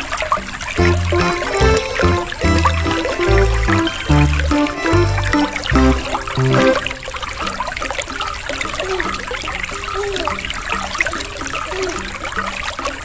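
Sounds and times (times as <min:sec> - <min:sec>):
water trickling and bubbling: 0:00.8 - 0:13.0.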